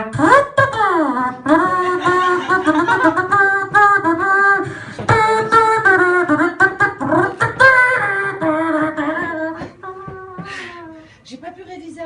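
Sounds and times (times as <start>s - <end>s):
person singing wordless tune: 0.0s - 11.0s.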